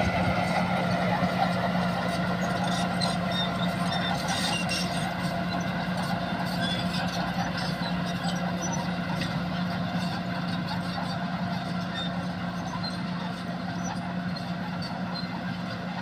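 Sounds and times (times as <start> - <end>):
bulldozer engine running: 0.0 - 16.0.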